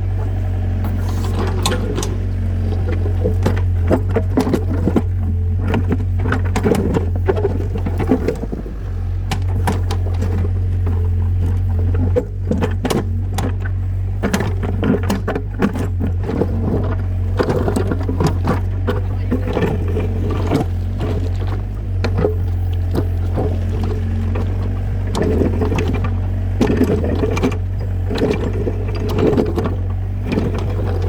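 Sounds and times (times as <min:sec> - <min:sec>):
engine droning: 0:00.0 - 0:31.0
rattles and knocks: 0:00.0 - 0:31.0.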